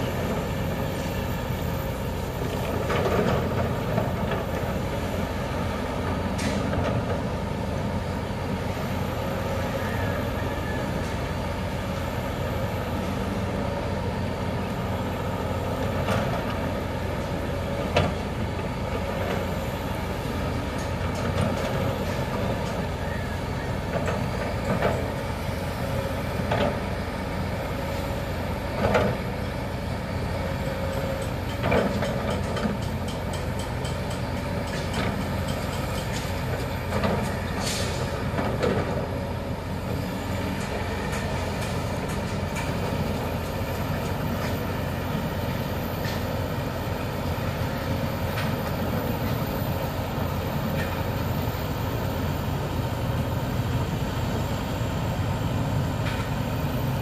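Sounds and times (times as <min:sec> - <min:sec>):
excavator diesel engine drone: 0:00.0 - 0:57.0.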